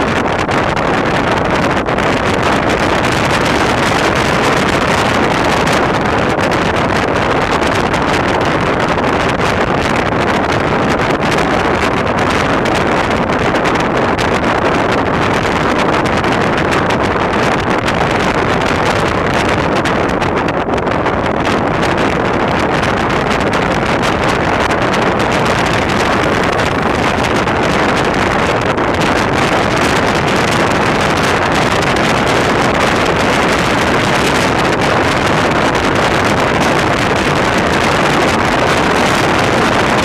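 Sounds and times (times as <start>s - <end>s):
wind noise on microphone: 0.0s - 40.0s.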